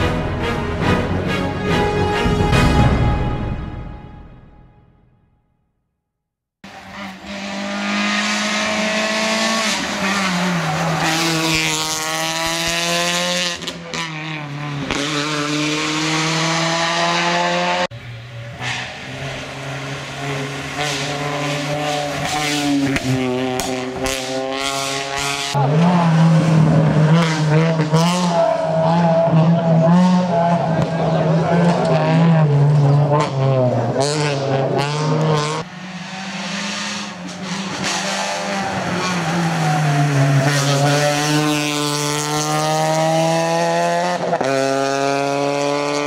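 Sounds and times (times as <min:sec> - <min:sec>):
rally car engine revving: 0:06.6 - 0:46.0.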